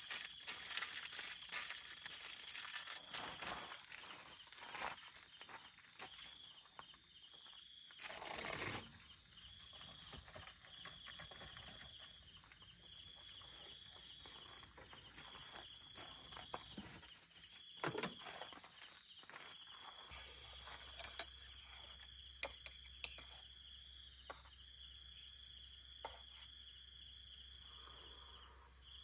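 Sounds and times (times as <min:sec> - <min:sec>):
insects chirping in trills: 0:00.0 - 0:29.0.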